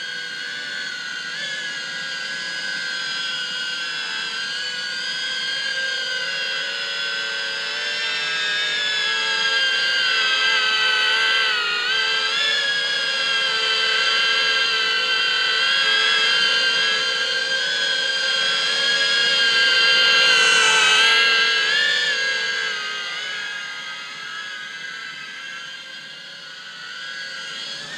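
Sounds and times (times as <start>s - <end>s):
quadcopter motors whining: 0.0s - 27.9s.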